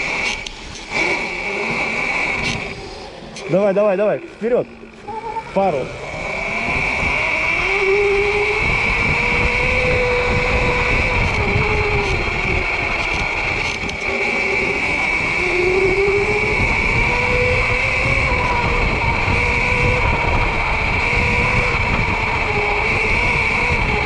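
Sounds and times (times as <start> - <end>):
electric motorbike motor whining: 0.0 - 24.0
wind on microphone: 0.0 - 24.0.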